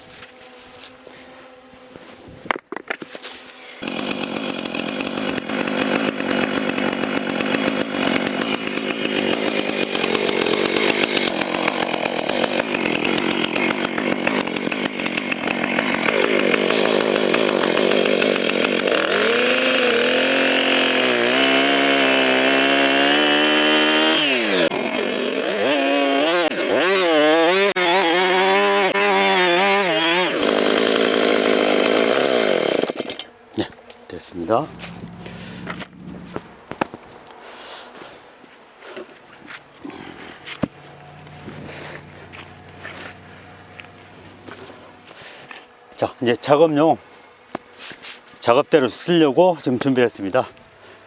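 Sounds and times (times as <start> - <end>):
chainsaw cutting wood: 0.2 - 48.5.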